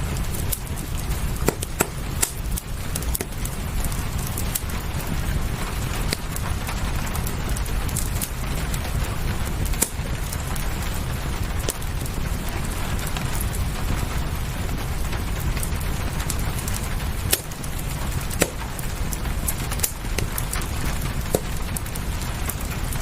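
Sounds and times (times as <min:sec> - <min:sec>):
low rumble: 0:00.0 - 0:23.0
rain rushing: 0:00.0 - 0:23.0
wood fire crackling and popping: 0:00.0 - 0:23.0.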